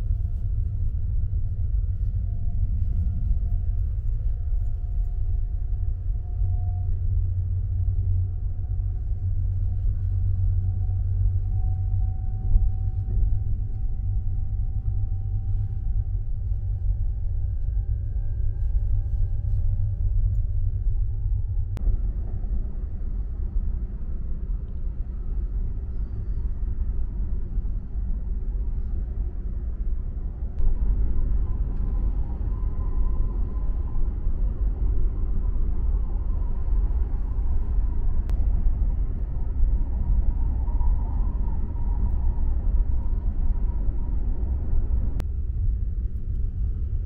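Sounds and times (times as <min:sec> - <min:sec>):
train rumble inside carriage: 0:00.0 - 0:47.0.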